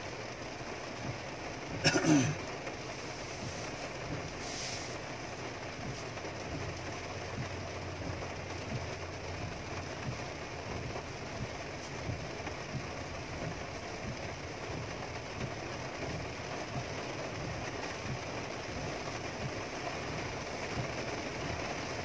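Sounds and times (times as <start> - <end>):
heavy rain on car roof: 0.0 - 22.0
low car engine rumble: 0.0 - 22.0.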